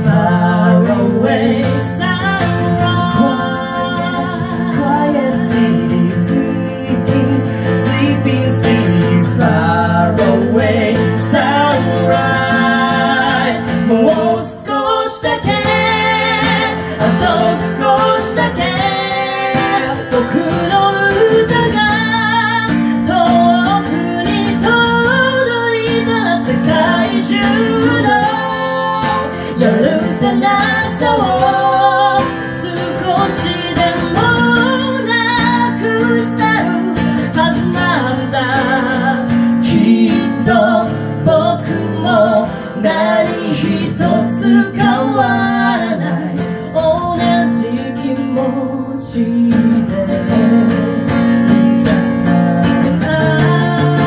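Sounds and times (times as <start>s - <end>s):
acoustic guitar: 0.0s - 54.0s
woman singing: 0.0s - 54.0s.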